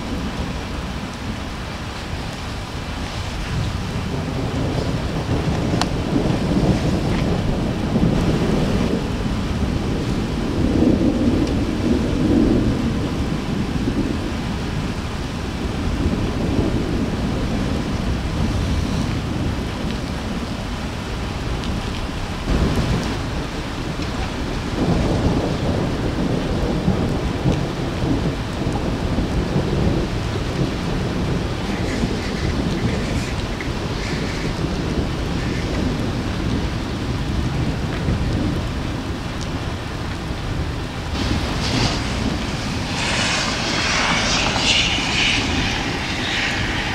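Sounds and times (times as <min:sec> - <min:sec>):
heavy rain hissing: 0:00.0 - 0:46.9
thunder rolling: 0:00.0 - 0:46.9.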